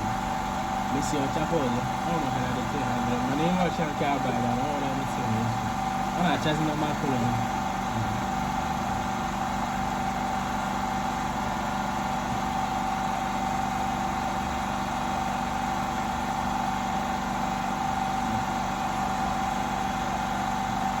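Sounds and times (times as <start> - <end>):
machine hum with high whine: 0.0 - 21.0.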